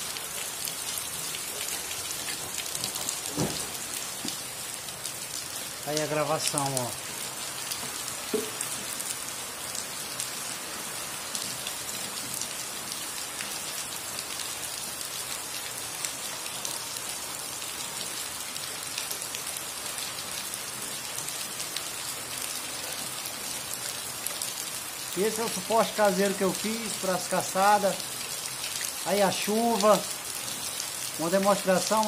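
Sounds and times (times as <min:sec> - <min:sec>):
heavy rain on concrete: 0:00.0 - 0:32.0.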